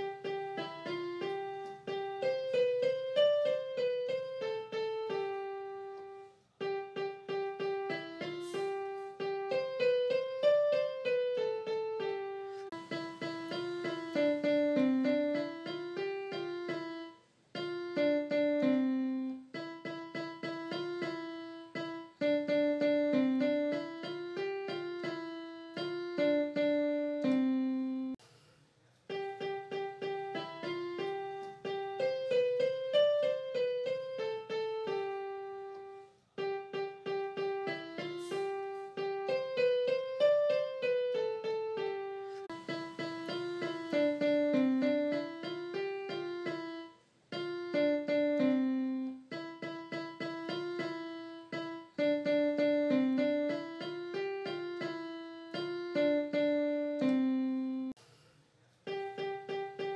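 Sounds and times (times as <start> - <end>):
piano music: 0.0 - 28.2, 29.1 - 58.0, 58.9 - 59.9.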